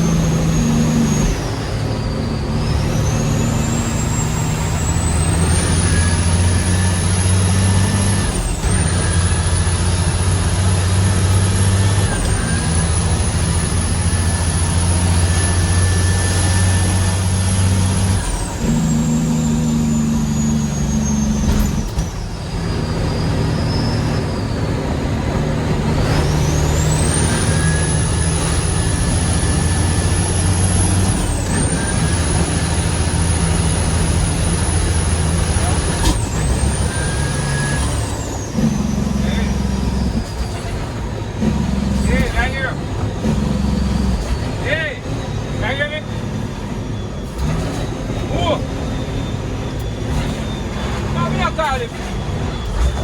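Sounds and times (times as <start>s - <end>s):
diesel truck engine under load: 0.0s - 53.0s
turbo whine: 0.0s - 53.0s.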